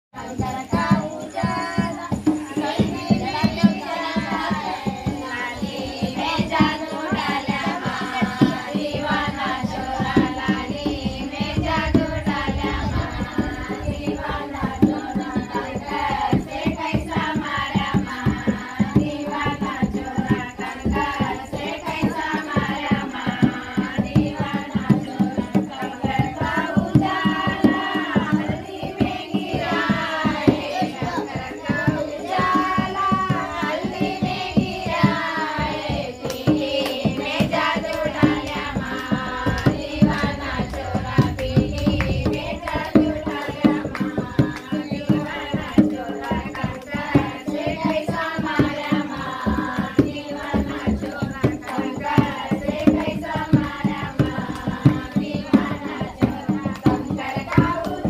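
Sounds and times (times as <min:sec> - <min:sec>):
dholak drum beating: 0:00.2 - 0:58.0
women singing in unison: 0:00.2 - 0:58.0.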